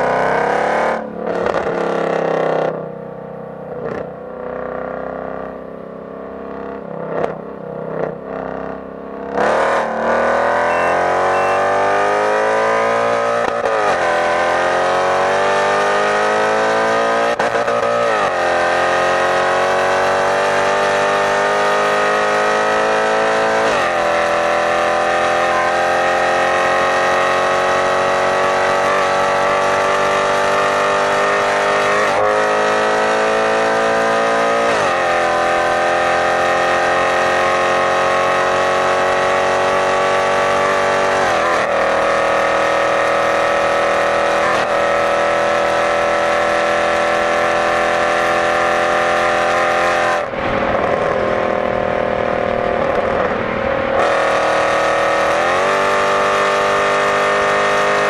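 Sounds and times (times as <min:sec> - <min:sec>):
car engine pulling hard: 0:06.5 - 0:58.0.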